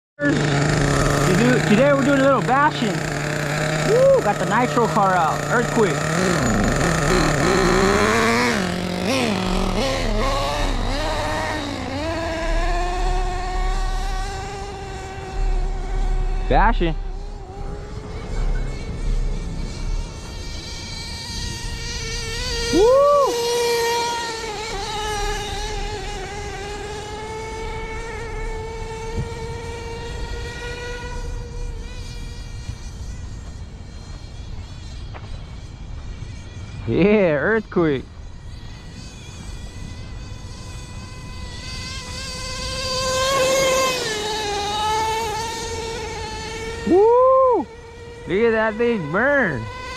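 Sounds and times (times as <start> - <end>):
small nitro engine revving: 0.2 - 49.9.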